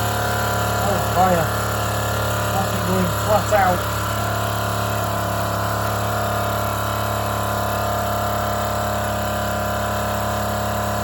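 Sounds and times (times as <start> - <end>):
model steam engine whirring: 0.0 - 11.0.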